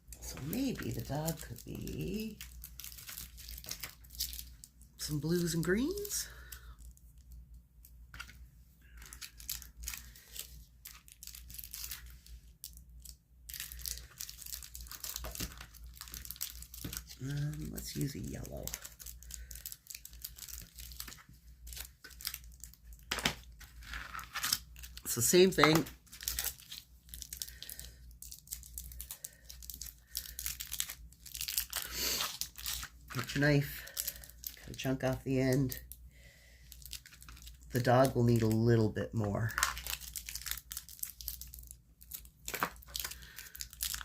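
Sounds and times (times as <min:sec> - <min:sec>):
plastic packaging crinkling: 0:00.0 - 0:36.0, 0:36.7 - 0:44.0.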